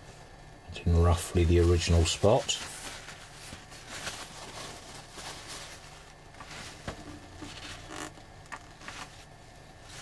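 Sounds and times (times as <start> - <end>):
paper towel rustling on wood: 1.1 - 10.0.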